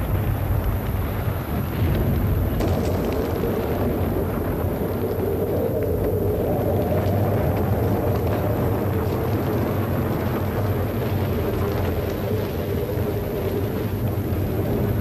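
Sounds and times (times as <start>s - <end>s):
low rumbling noise with hiss: 0.0s - 15.0s.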